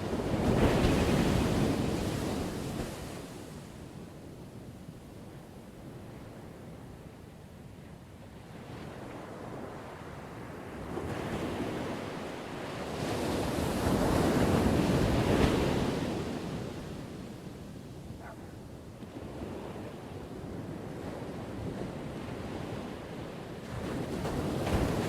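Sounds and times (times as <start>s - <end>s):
ocean waves breaking on shore: 0.0s - 4.4s, 8.3s - 25.0s.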